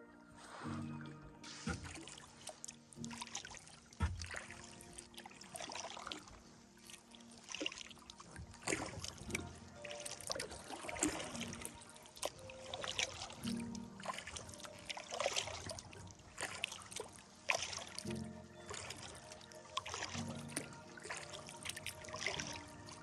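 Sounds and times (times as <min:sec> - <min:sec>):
paddle strokes splashing water: 0:00.0 - 0:23.0
soft background music: 0:00.0 - 0:23.0
water trickling off paddle: 0:00.0 - 0:23.0.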